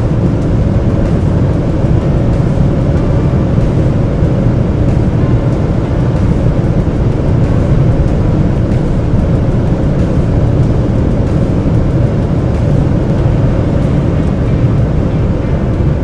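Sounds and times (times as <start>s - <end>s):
diesel engine drone in car cabin: 0.0s - 16.0s
wind noise: 0.0s - 16.0s.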